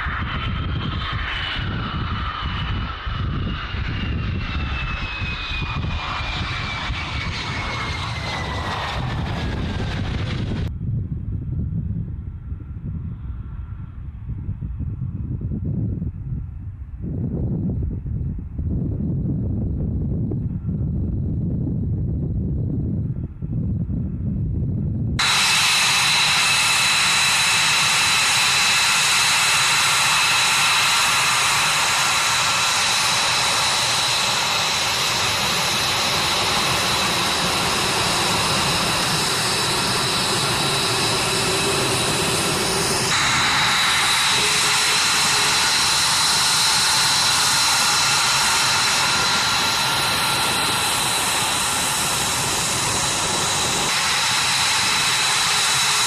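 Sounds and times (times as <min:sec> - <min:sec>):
jet engine whine and roar: 0:00.0 - 0:56.0.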